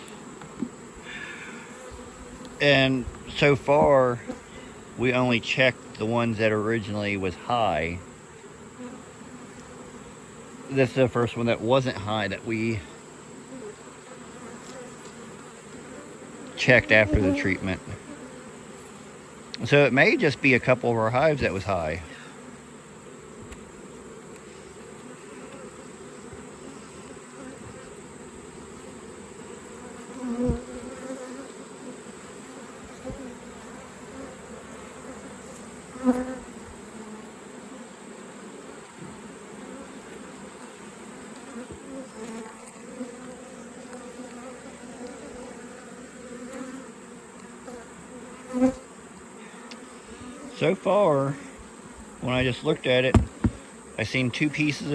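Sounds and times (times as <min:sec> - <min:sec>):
bee buzzing close to microphone: 0:00.0 - 0:54.9
honey bees buzzing: 0:00.0 - 0:54.9.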